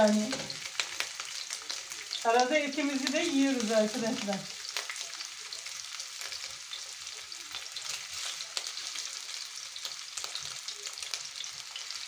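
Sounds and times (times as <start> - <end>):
meat patties sizzling in pan: 0.0 - 12.0.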